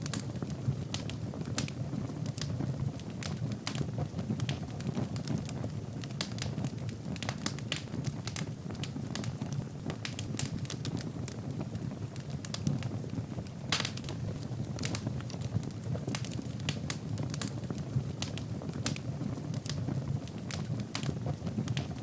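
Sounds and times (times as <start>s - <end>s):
fire crackling and popping: 0.0s - 22.0s
low rush of flames: 0.0s - 22.0s.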